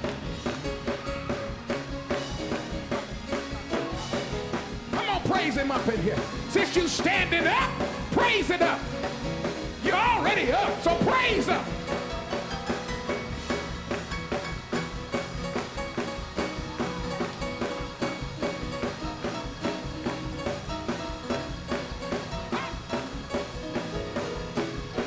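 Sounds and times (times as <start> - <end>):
church band playing: 0.0 - 25.0
drum kit beat: 0.0 - 25.0.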